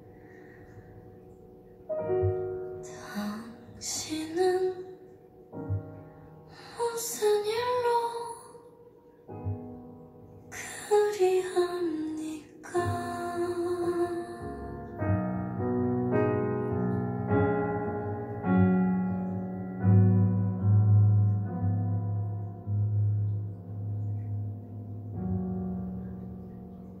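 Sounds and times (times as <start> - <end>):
slow piano chords over loudspeakers: 0.0 - 27.0.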